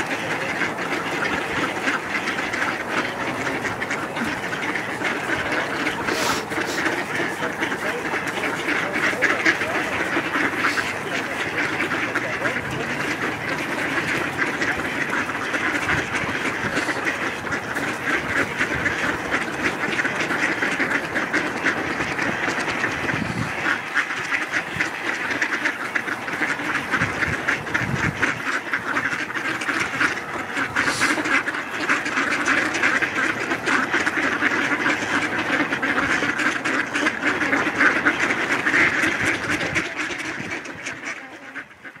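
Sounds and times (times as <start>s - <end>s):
ducks quacking: 0.0s - 42.0s.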